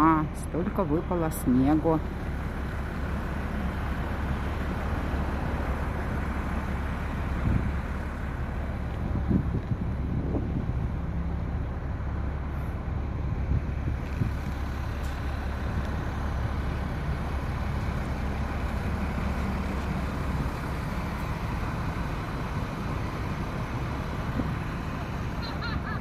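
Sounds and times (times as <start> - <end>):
wind buffeting microphone: 4.0 - 25.4.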